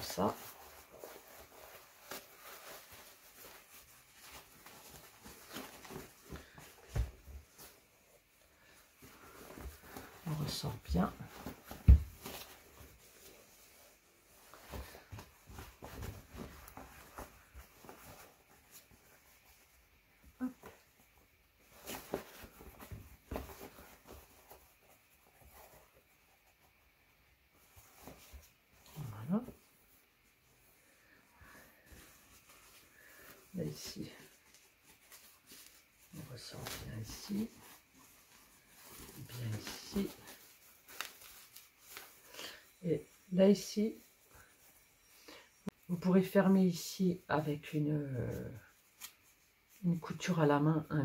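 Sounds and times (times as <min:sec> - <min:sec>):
quilted fabric rustling: 0:00.0 - 0:51.0.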